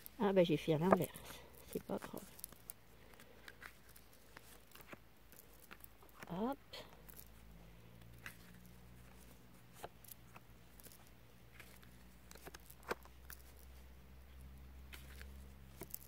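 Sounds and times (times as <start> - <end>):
playing cards clicking and tapping: 0.8 - 7.4, 8.0 - 13.9, 14.8 - 16.0.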